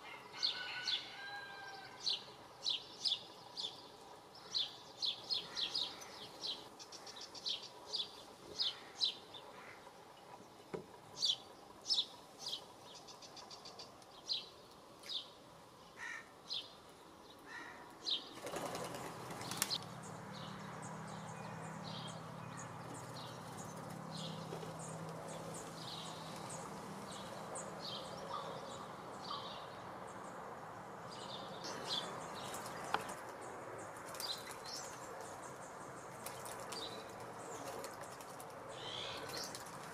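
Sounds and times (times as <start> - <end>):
small birds chirping: 2.0 - 39.9.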